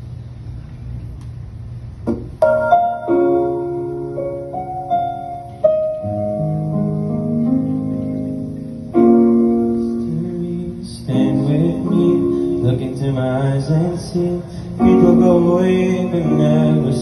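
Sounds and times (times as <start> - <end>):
keyboard chords with melody: 2.4 - 17.0.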